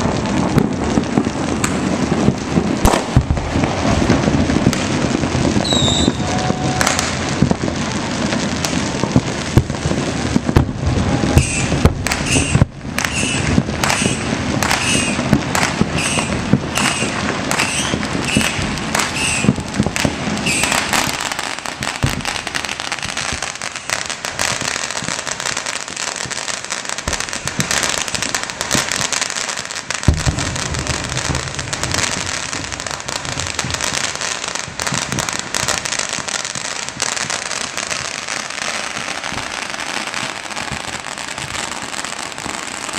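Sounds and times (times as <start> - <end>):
firecrackers and fireworks crackling: 0.0 - 42.9.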